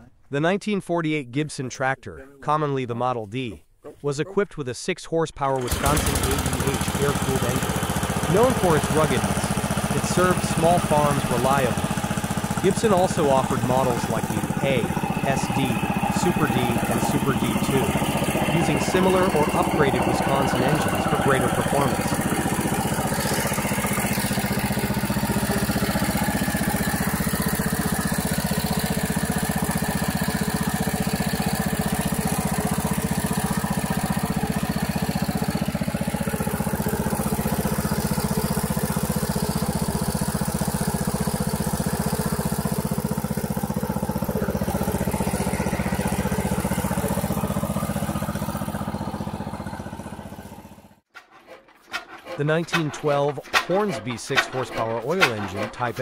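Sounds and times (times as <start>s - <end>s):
single-cylinder tractor engine running: 5.6s - 56.0s.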